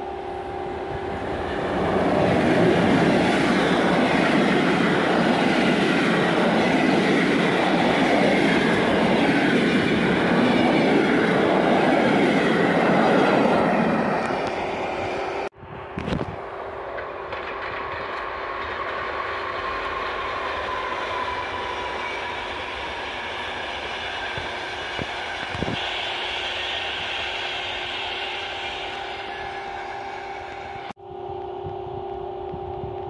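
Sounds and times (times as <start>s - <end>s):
passenger train passing: 0.0s - 33.0s
train wheels on rails: 0.0s - 33.0s.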